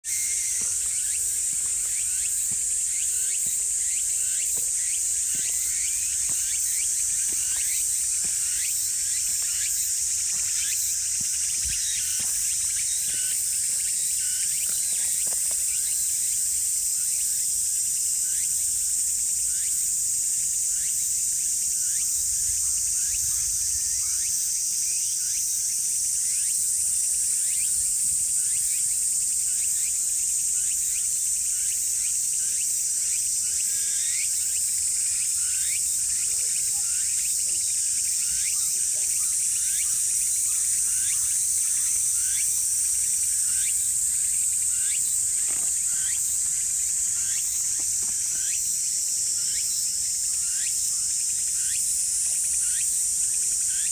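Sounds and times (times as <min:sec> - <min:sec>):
insects droning: 0:00.0 - 0:53.9
short insect chirps: 0:00.1 - 0:53.9.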